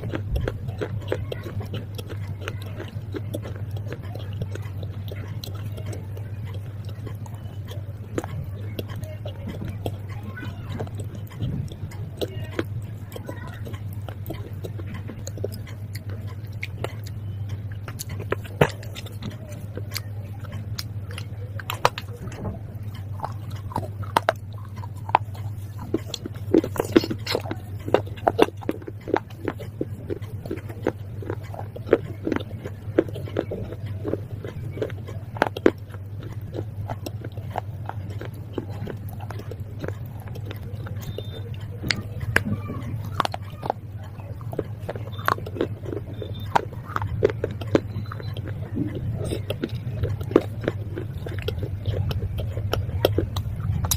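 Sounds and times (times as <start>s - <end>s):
crunching and chewing: 0.0s - 53.9s.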